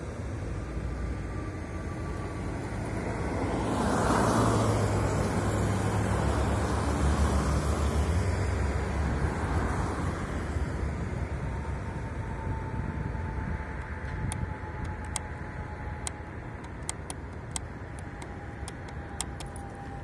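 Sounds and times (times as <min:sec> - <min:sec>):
traffic low rumble: 0:00.0 - 0:20.0.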